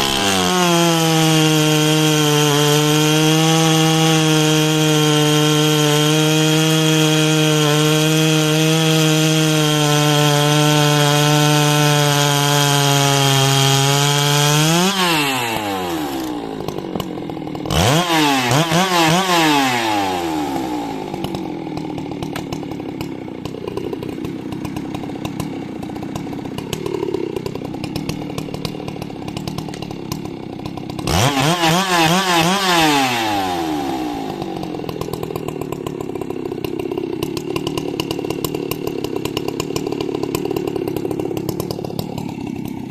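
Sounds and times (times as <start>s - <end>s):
chainsaw cutting at full throttle: 0.0s - 42.9s
chainsaw idling: 0.0s - 42.9s
chainsaw revving: 0.0s - 42.9s.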